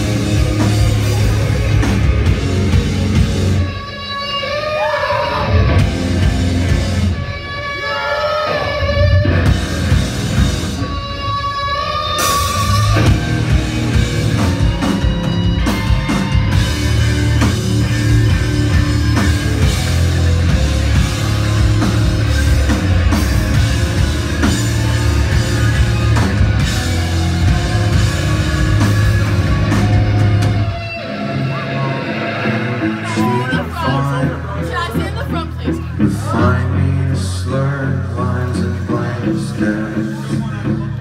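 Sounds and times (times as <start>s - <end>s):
drum kit: 0.0s - 4.6s, 5.4s - 7.7s, 8.7s - 36.4s
electric guitar: 0.0s - 41.0s
rock band playing: 0.0s - 41.0s.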